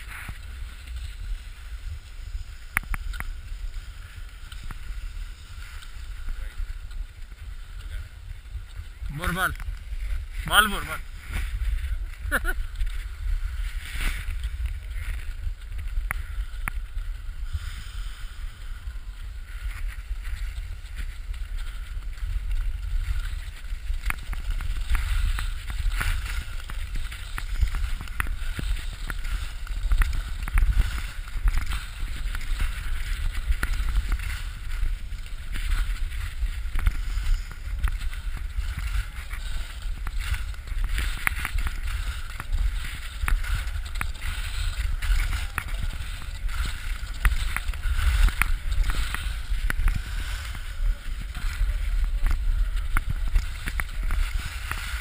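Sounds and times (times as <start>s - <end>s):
skis carving over packed snow: 0.0s - 55.0s
wind rumbling on microphone: 0.0s - 55.0s.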